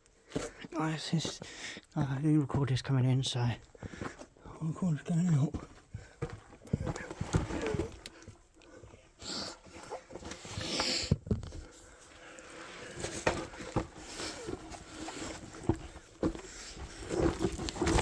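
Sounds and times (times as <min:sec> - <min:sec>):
knocks and rustling on loose ground: 0:00.1 - 0:18.0.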